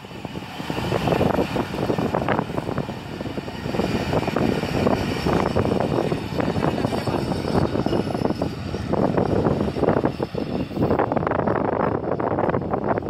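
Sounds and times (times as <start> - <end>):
train rushing and clattering: 0.0 - 13.0
wind buffeting microphone: 0.0 - 13.0.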